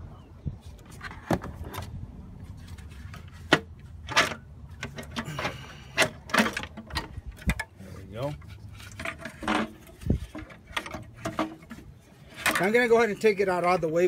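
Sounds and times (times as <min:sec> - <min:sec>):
engine parts clunking and scraping: 0:00.6 - 0:14.0.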